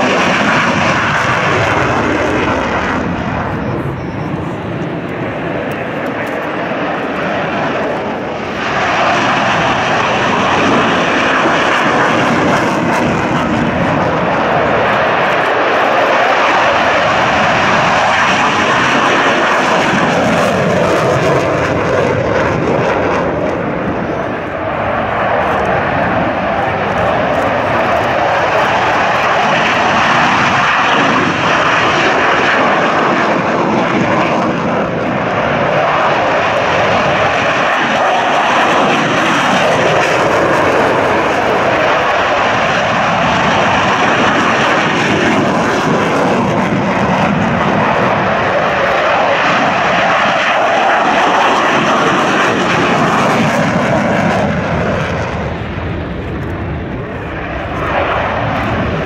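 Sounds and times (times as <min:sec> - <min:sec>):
fighter jets roaring on takeoff: 0:00.0 - 0:59.0.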